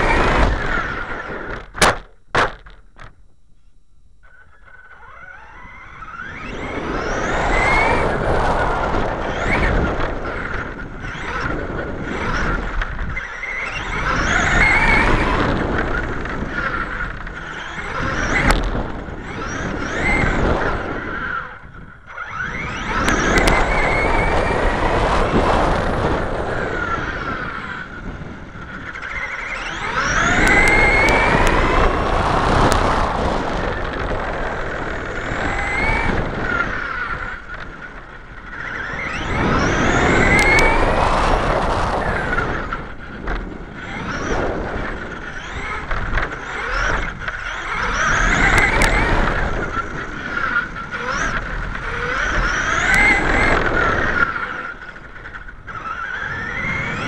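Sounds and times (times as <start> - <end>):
tyre and road noise: 0.0 - 3.2, 4.2 - 57.0
electric motor whine: 0.0 - 57.0.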